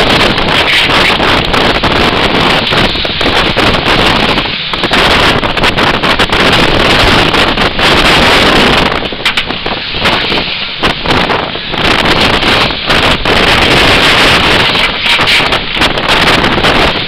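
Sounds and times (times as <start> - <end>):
water rushing past hull: 0.0 - 17.0
wind buffeting microphone: 0.0 - 17.0.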